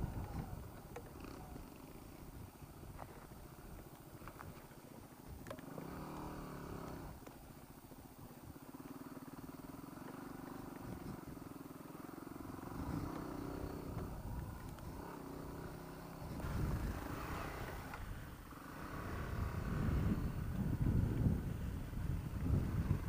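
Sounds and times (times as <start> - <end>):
motorcycle engine revving: 0.0 - 4.7, 5.3 - 23.0.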